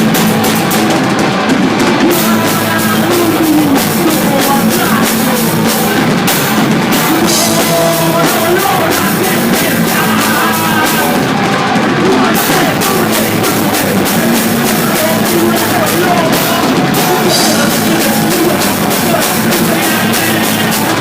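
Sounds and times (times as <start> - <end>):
loud rock music: 0.0 - 21.0.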